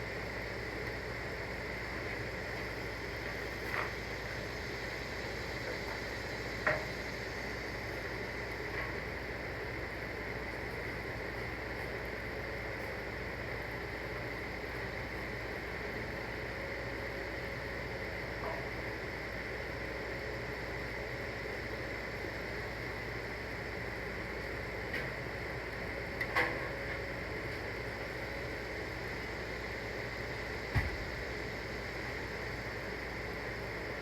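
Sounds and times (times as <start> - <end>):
faint constant hum: 0.0 - 34.0.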